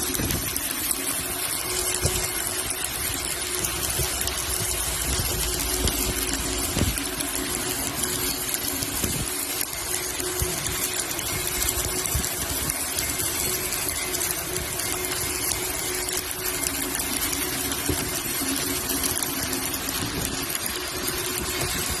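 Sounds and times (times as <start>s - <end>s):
welding arc crackling hiss: 0.0s - 22.0s.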